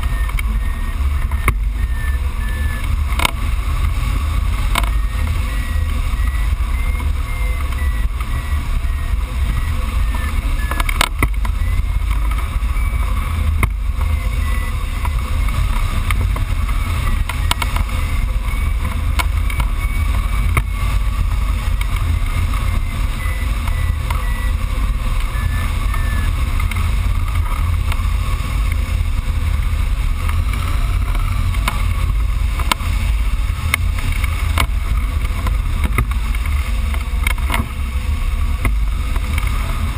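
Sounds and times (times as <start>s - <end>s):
variometer beeping: 0.0s - 39.9s.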